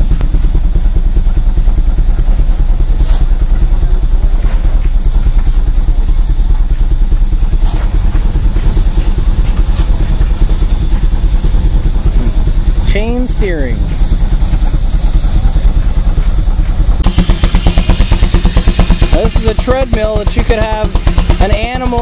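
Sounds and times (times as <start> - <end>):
steam engine beating fast: 0.0 - 22.0.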